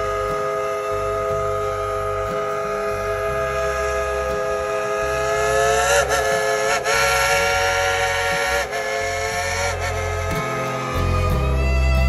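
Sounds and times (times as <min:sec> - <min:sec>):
steam locomotive whistle: 0:00.0 - 0:12.0.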